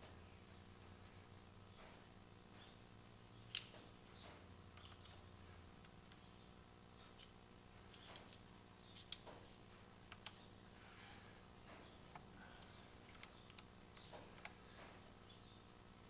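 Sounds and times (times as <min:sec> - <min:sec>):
quiet steady hum: 0:00.0 - 0:16.0.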